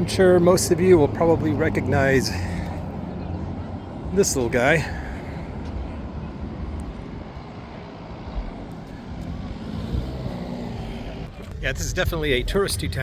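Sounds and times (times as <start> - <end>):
street noise: 0.0 - 13.0
vehicle engine rumbling: 0.0 - 13.0.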